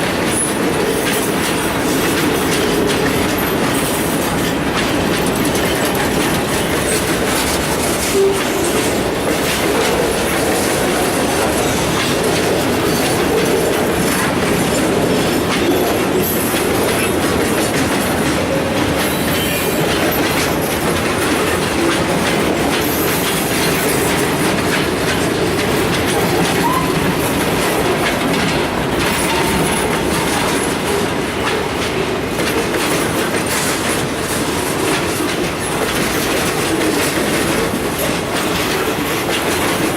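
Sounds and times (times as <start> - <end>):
steel wheels rumbling on rail: 0.0 - 39.9
wheels clacking over rail joints: 0.0 - 39.9.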